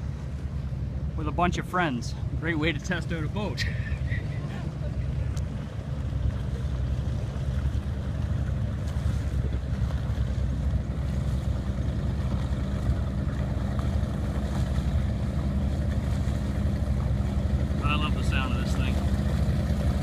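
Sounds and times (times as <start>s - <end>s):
powerboat engines running: 0.0s - 20.0s.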